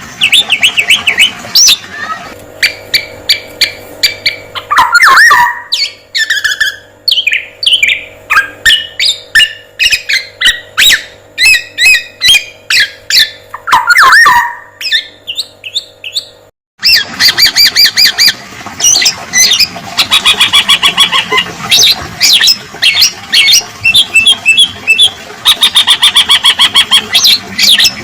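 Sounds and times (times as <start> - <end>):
bird chirps and whistles: 0.2 - 1.8, 2.6 - 28.0.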